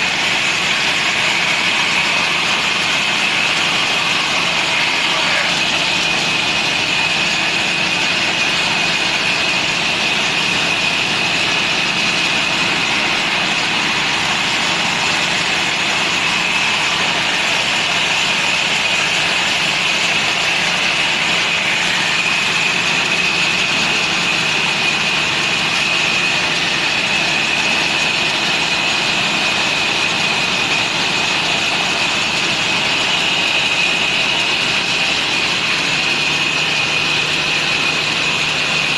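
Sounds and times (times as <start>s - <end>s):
high-pitched whine: 0.0s - 38.9s
sawmill machine running: 0.0s - 38.9s.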